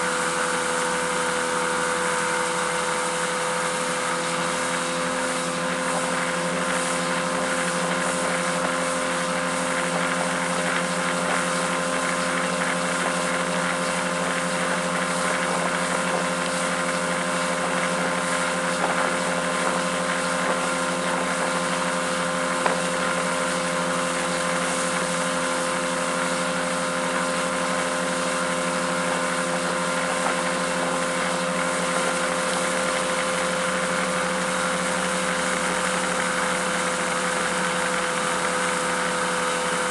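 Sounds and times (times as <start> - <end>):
outboard motor drone: 0.0 - 39.9
wind and water rushing: 0.0 - 39.9.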